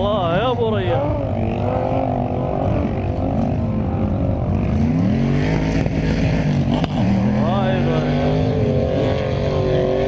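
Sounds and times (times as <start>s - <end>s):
vehicle engine revving under load: 0.9s - 10.0s.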